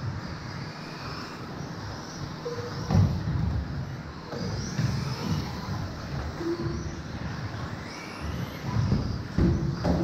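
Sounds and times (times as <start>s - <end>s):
rc car motor whine: 0.0s - 10.0s.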